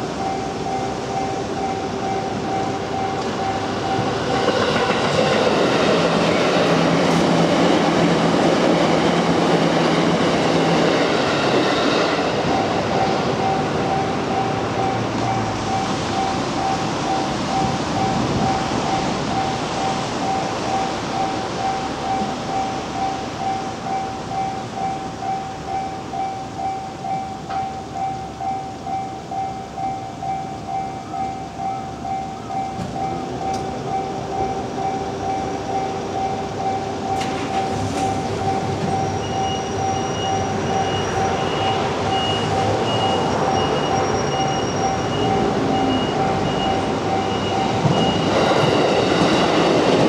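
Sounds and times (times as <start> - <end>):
level-crossing warning bell ringing: 0.0 - 50.0.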